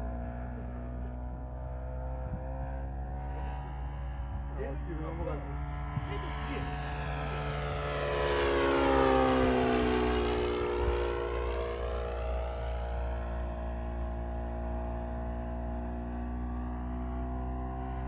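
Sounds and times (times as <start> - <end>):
model plane engine flying past: 0.0 - 18.0.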